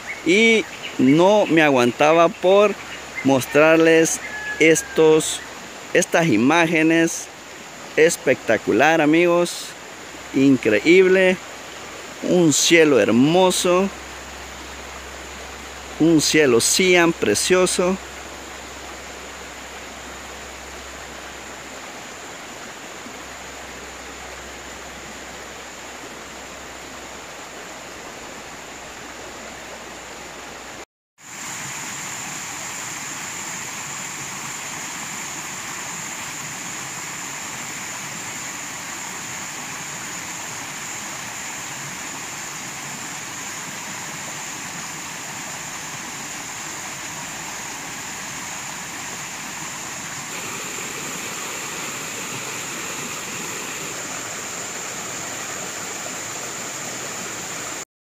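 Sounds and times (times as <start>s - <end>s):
river rushing over rocks: 0.0s - 57.8s.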